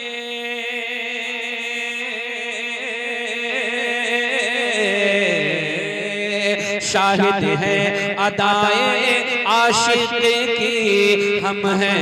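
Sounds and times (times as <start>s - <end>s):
man singing through a microphone: 0.0s - 12.0s.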